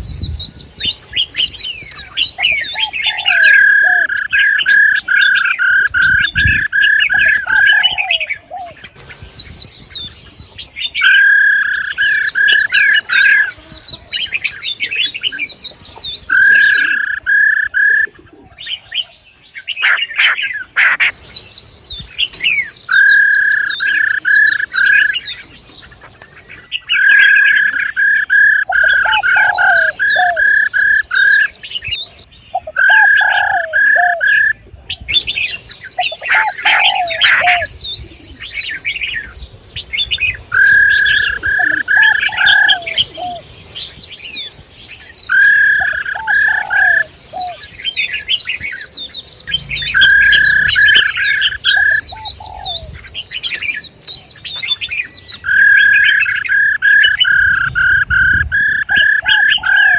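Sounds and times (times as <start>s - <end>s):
bird chirping bursts: 0.0s - 18.1s, 19.5s - 34.6s, 35.2s - 59.9s
rapid high twittering: 0.0s - 18.1s, 19.8s - 34.6s, 35.2s - 59.9s.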